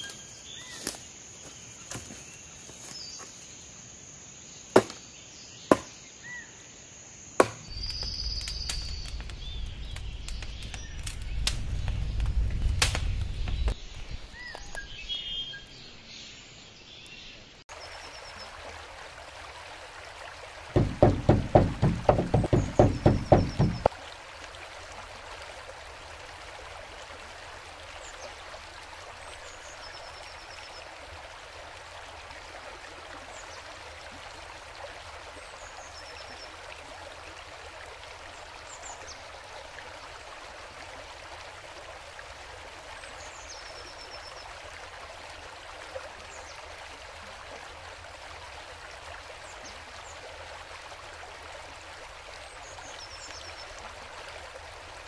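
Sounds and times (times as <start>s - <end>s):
flowing water: 7.2s - 55.0s.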